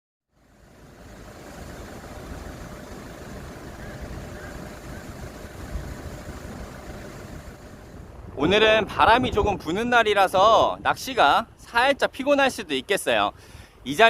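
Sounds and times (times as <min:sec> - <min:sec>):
wind buffeting microphone: 0:00.6 - 0:12.6.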